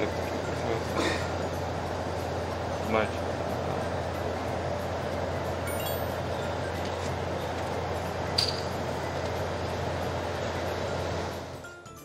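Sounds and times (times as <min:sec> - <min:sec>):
low rumble of vehicle: 0:00.0 - 0:11.7.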